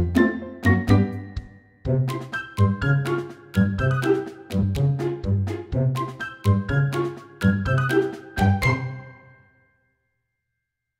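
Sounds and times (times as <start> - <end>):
background music with bass line: 0.0 - 9.1.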